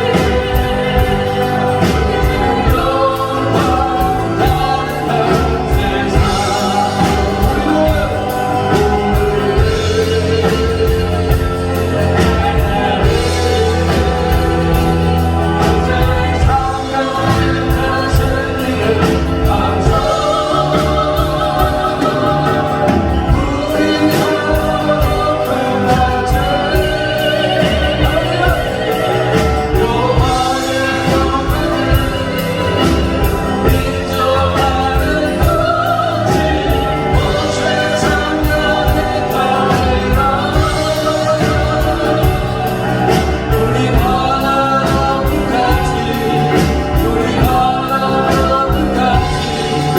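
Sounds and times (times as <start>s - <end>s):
band with steady drum beat: 0.0s - 49.9s
voices singing a melody: 0.0s - 49.9s.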